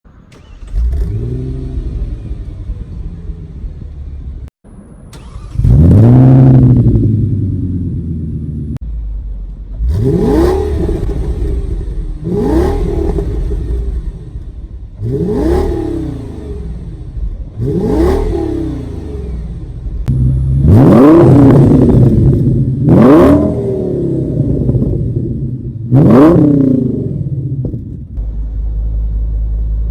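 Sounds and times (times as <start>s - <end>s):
car engine idling and revving: 0.1s - 29.9s.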